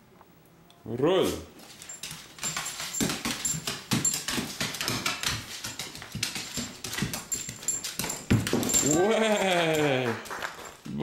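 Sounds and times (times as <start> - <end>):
dog claws clicking on wood floor: 1.6 - 10.9.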